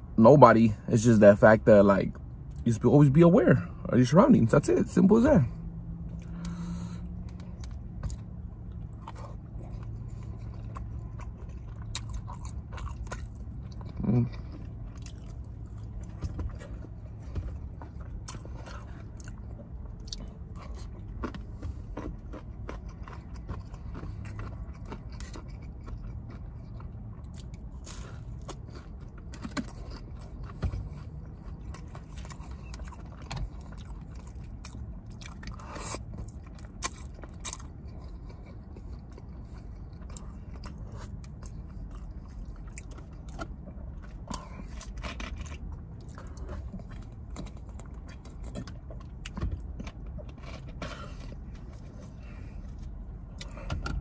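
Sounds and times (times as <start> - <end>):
low hum inside car: 0.0 - 54.0
chewing and biting food: 6.0 - 54.0.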